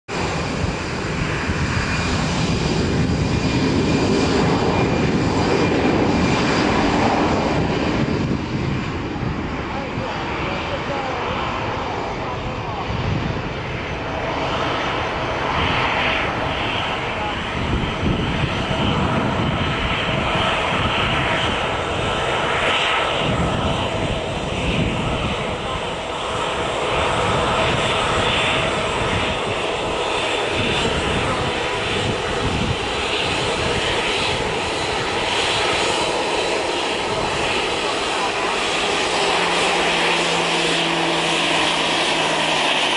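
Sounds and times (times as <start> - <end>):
jet engines roaring: 0.1 - 42.9.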